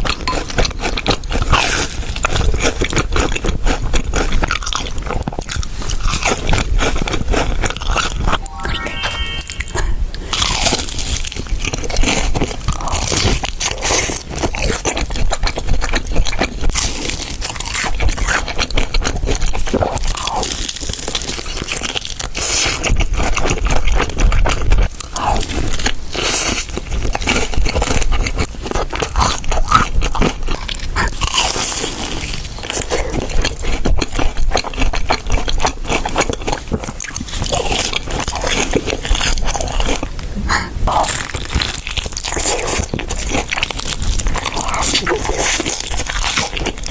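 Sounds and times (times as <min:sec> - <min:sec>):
crunchy food being chewed: 0:00.0 - 0:08.5, 0:10.2 - 0:46.9.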